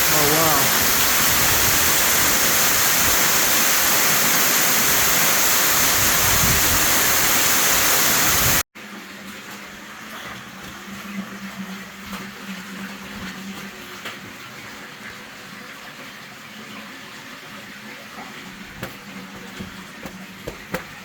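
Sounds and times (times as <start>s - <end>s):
small waterfall splashing: 0.0s - 10.9s, 12.0s - 21.0s.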